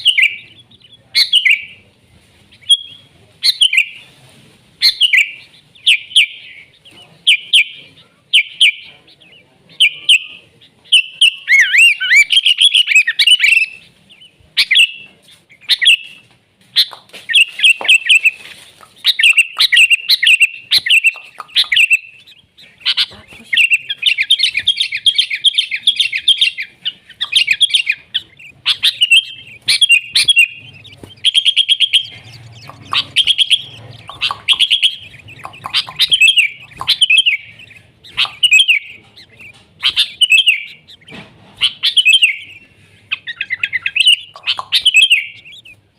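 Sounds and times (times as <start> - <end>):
bird chattering song: 0.0 - 4.2, 4.8 - 45.9.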